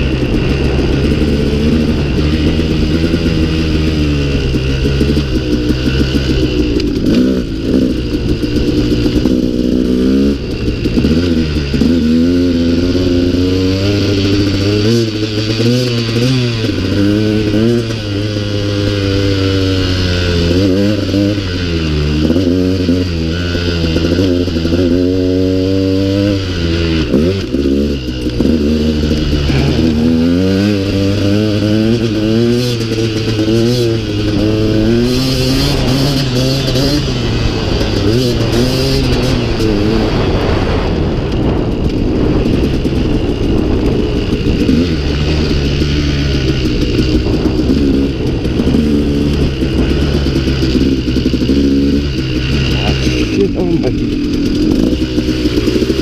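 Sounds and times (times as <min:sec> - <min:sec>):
two-stroke dirt bike engine revving: 0:00.0 - 0:56.0.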